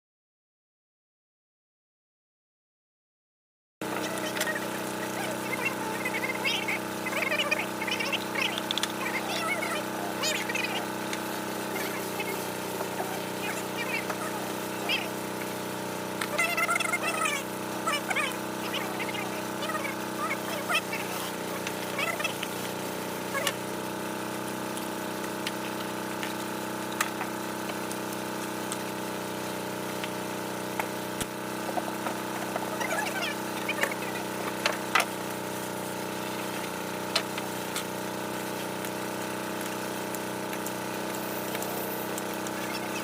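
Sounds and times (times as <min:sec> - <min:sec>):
electric motor humming: 0:03.8 - 0:43.0.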